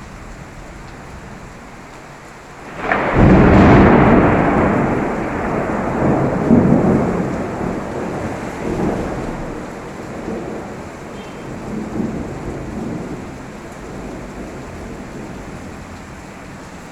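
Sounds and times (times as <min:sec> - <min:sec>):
steady rain: 0:00.0 - 0:16.9
thunder rumbling: 0:00.0 - 0:16.9.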